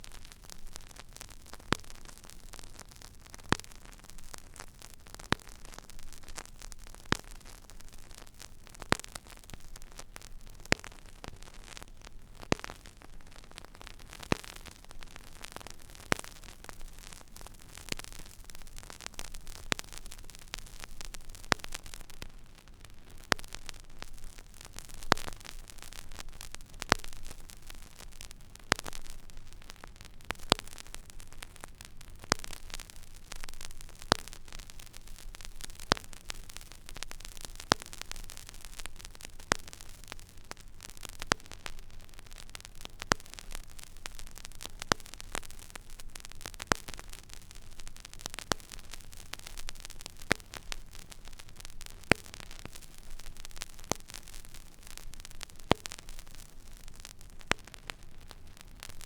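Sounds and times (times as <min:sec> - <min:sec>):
vinyl surface hiss and crackle: 0:00.0 - 0:59.0.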